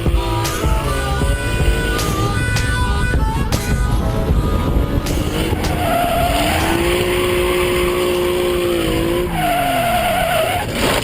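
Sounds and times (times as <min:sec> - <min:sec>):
car engine running: 0:00.0 - 0:09.8
car tyres squealing: 0:00.0 - 0:11.0.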